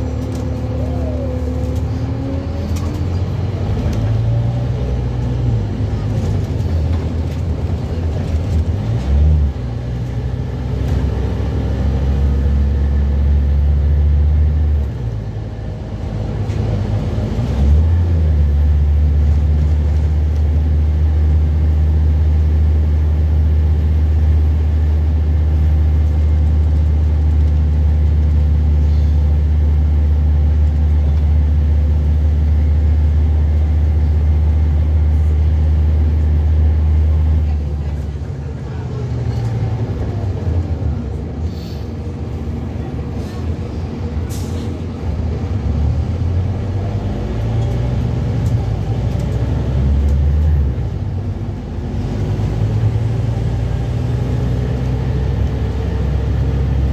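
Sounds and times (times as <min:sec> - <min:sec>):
bus diesel engine from inside: 0:00.0 - 0:56.9.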